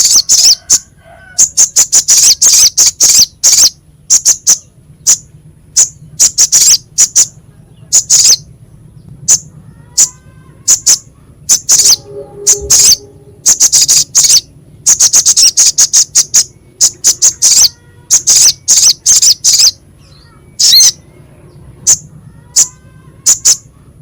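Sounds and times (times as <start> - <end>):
bird giving harsh chip calls: 0.0 - 8.5, 9.3 - 21.0, 21.8 - 23.7.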